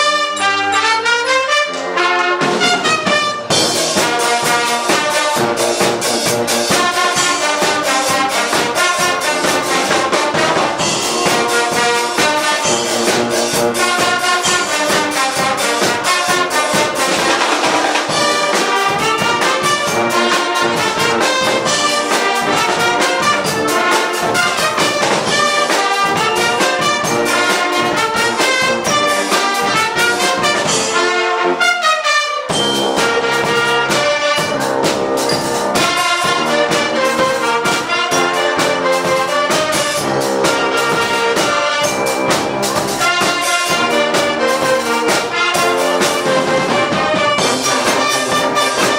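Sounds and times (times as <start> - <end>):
driving drum beat: 0.0 - 31.7, 32.4 - 48.9
brass band playing: 0.0 - 48.9
trumpets and trombones: 0.0 - 48.9.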